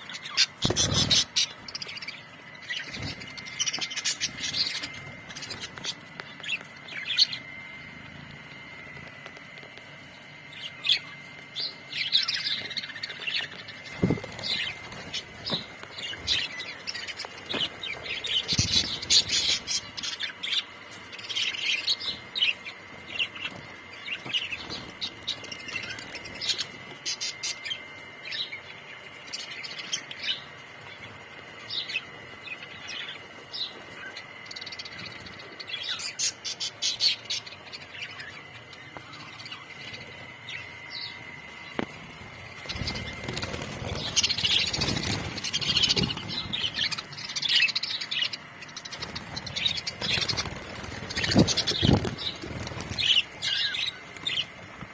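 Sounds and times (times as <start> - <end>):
budgerigars chirping and warbling: 0.0 - 9.1, 10.5 - 54.9.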